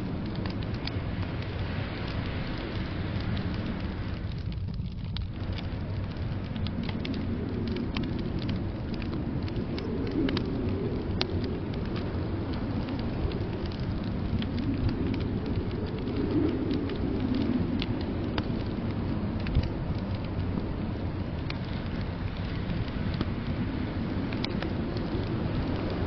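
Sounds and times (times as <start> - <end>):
blizzard wind rumble: 0.0 - 26.0
wood fire crackling and popping: 0.0 - 26.0.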